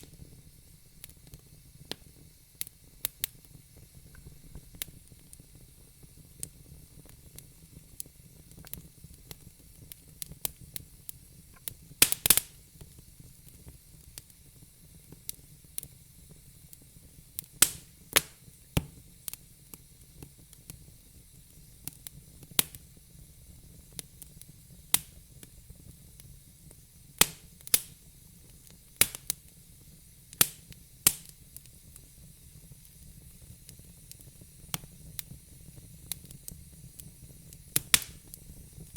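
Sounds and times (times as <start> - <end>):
faint steady hiss: 0.0 - 38.9
wood fire crackling: 0.0 - 38.9.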